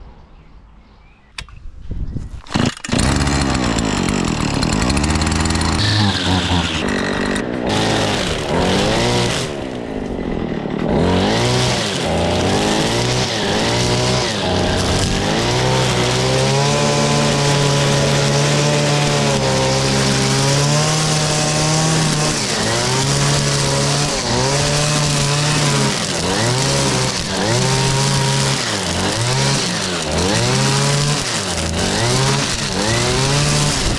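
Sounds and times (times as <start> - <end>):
tractor engine revving: 2.5 - 33.9.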